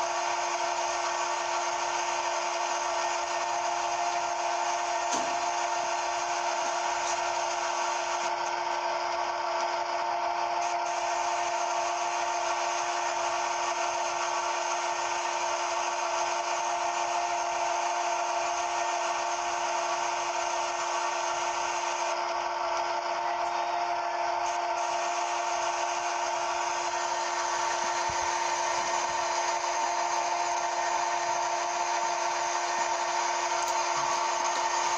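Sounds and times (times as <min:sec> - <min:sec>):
machine whine and hiss: 0:00.0 - 0:34.9.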